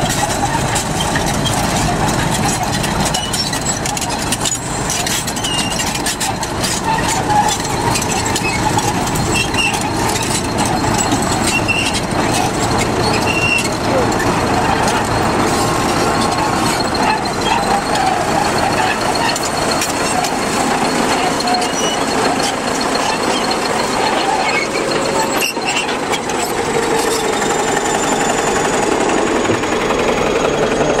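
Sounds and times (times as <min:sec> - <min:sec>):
diesel engine under load: 0:00.0 - 0:31.0
steel tracks clanking and squealing: 0:00.0 - 0:31.0.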